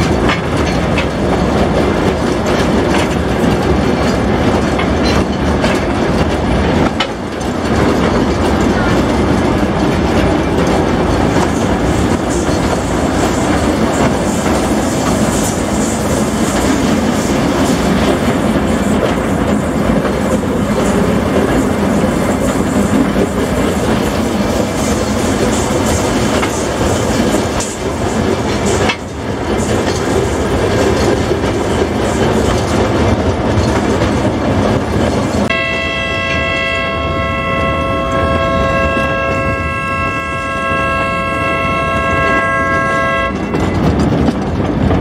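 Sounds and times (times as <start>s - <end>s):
train wheels rattling over track: 0.0s - 45.0s.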